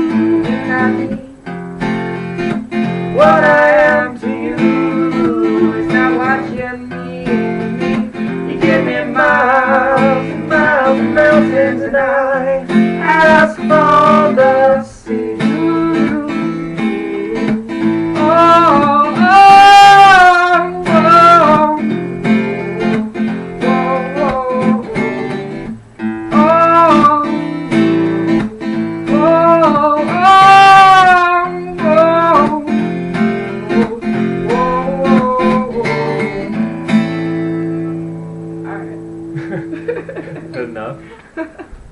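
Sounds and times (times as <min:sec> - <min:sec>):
person singing: 0:00.0 - 0:01.5, 0:03.0 - 0:25.7, 0:26.3 - 0:36.8
acoustic guitar strumming: 0:00.0 - 0:41.9.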